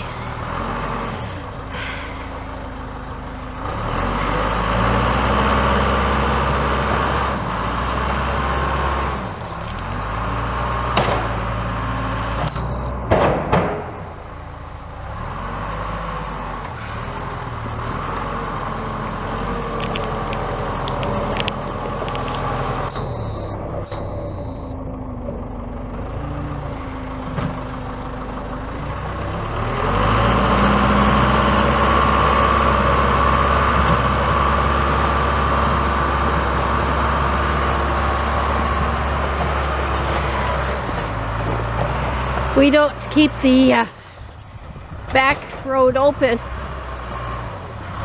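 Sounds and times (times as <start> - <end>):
backhoe diesel engine revving: 0.0 - 48.0.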